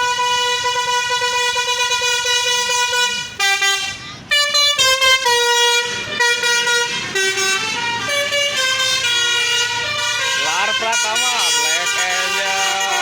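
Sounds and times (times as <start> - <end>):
musical air horn playing tune: 0.0 - 13.0.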